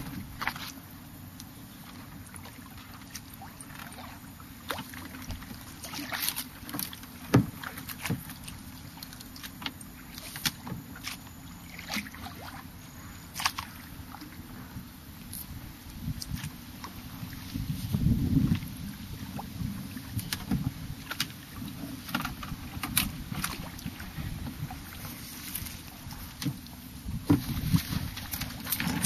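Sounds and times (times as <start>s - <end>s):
paddle dipping and dripping: 0.0s - 29.0s.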